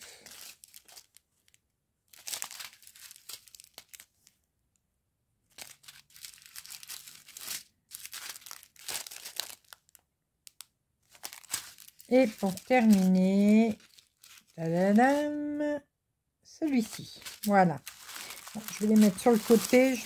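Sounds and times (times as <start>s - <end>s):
plastic sachets crinkling: 0.0s - 4.4s, 5.5s - 15.6s, 16.6s - 20.0s.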